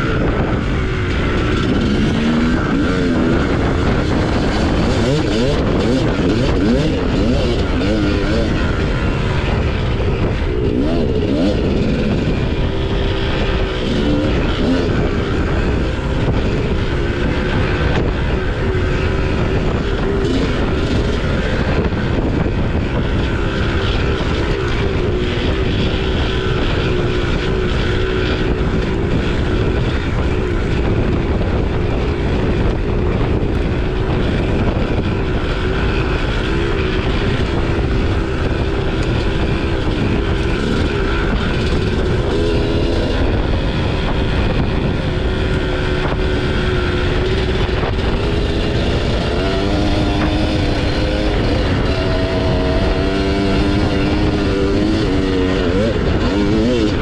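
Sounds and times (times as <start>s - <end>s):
dirt bike engine running: 0.0s - 57.0s
wind noise on microphone: 0.0s - 57.0s.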